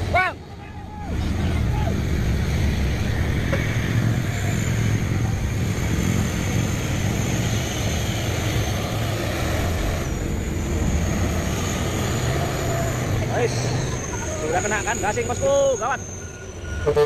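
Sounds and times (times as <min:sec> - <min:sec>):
road noise: 0:00.0 - 0:17.0
truck engine rumbling: 0:00.0 - 0:17.0.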